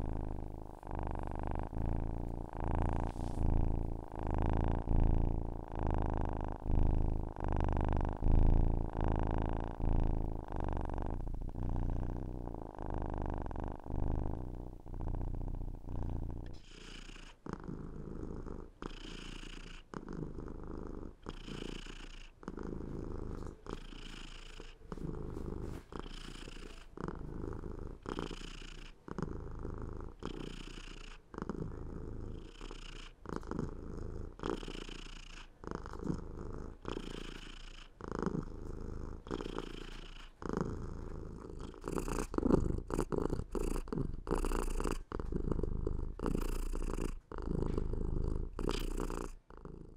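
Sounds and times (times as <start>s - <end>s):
cat purring: 0.0s - 49.9s.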